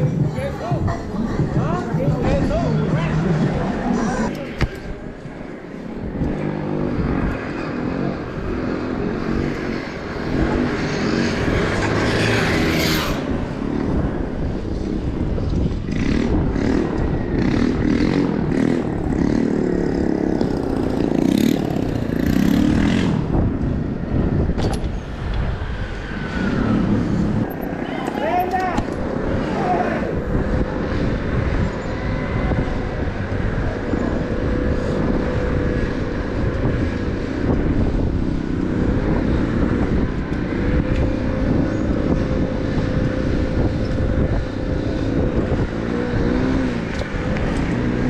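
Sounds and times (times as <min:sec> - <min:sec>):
traffic noise: 0:00.0 - 0:48.0
wind on camera microphone: 0:00.0 - 0:48.0.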